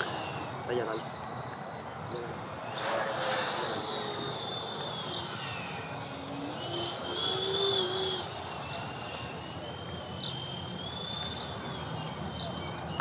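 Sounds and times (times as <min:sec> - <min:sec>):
model jet fans whining: 0:00.0 - 0:13.0.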